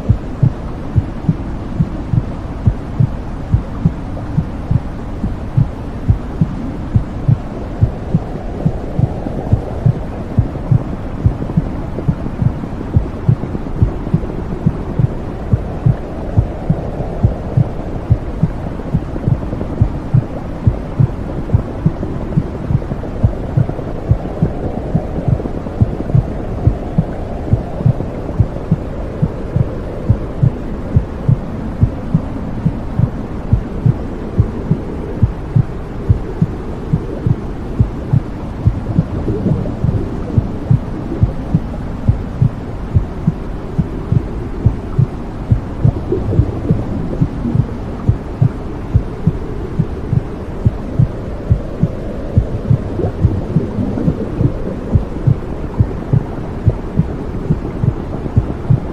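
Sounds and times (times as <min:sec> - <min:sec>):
heartbeat pulsing: 0:00.0 - 0:58.9
low whooshing blood flow: 0:00.0 - 0:58.9.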